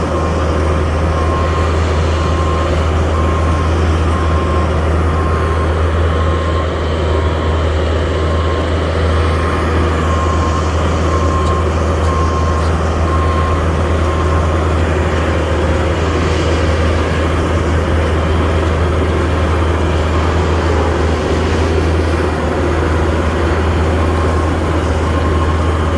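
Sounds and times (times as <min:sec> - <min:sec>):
engine deep rumble: 0:00.0 - 0:25.9.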